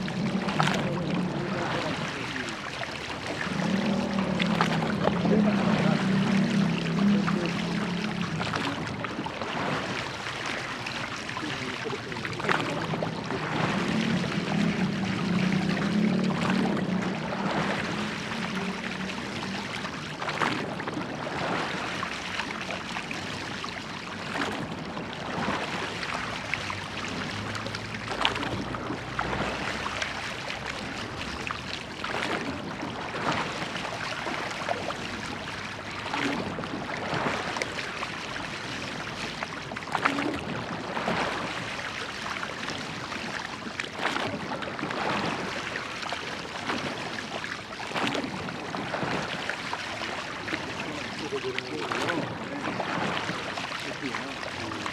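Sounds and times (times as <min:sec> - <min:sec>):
oar stroke splash: 0:00.0 - 0:54.9
oars pulling through water: 0:00.0 - 0:54.9
water rushing along hull: 0:00.0 - 0:54.9.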